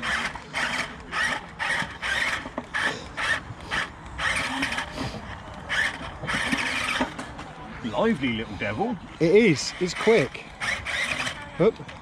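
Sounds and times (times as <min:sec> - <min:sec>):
small electric motors whirring: 0:00.0 - 0:07.4, 0:09.3 - 0:12.0.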